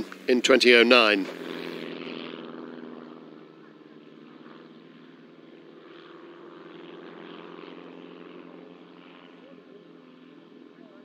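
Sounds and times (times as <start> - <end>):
propeller aircraft engines humming: 0.0 - 11.0.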